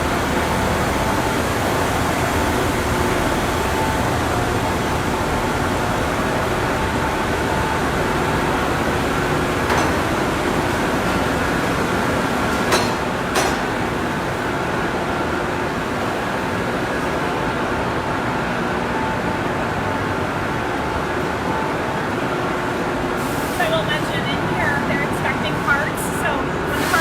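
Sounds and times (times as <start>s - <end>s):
faint constant hum: 0.0s - 27.0s
machinery and ventilation noise: 0.0s - 27.0s.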